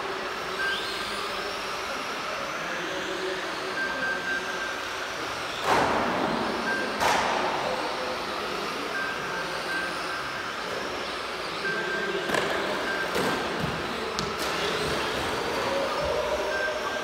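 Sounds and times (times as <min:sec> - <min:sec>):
rc truck motor whine: 0:00.0 - 0:07.0, 0:07.6 - 0:17.0.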